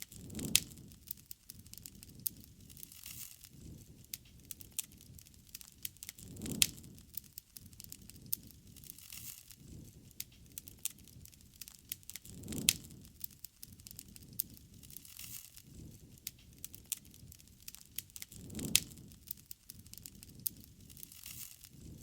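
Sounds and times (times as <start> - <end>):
campfire crackling: 0.0 - 22.0
loud fire pops: 0.0 - 22.0
low whoosh of flame: 0.0 - 22.0.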